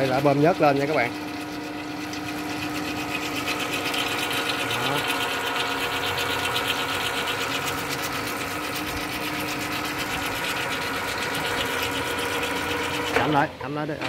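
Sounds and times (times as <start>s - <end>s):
lathe gears clattering: 0.0s - 14.0s.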